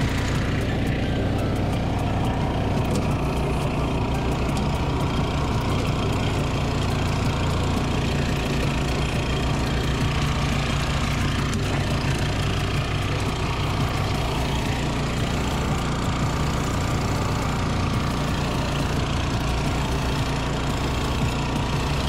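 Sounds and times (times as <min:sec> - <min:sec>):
mower engine running: 0:00.0 - 0:22.0.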